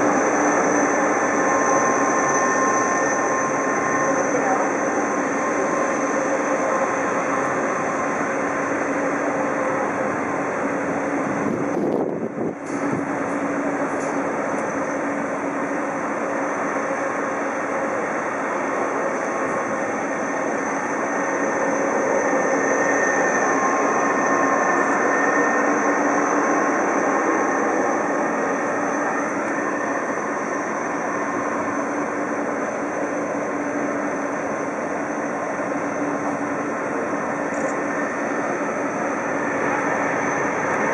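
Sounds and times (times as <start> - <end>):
jet engines rumbling and whining: 0.0 - 40.9.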